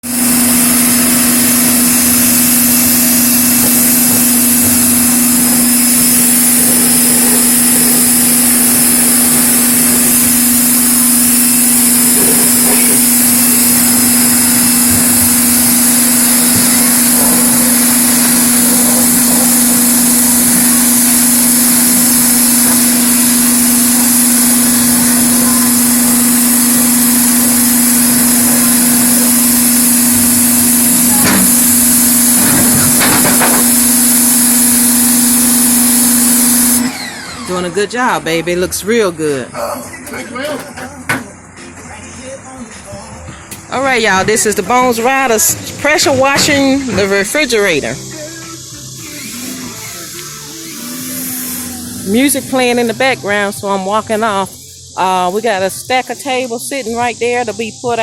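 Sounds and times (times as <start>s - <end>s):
water spray hissing: 0.0s - 36.9s, 44.0s - 58.0s
pressure washer motor hum: 0.0s - 39.3s, 43.5s - 58.0s.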